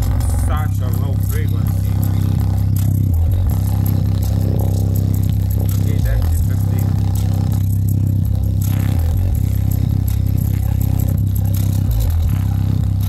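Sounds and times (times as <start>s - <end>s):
deep bass notes from speaker: 0.0s - 13.0s.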